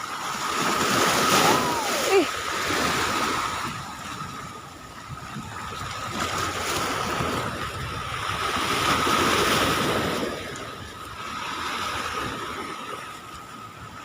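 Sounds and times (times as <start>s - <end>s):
sea waves washing in: 0.0s - 14.0s.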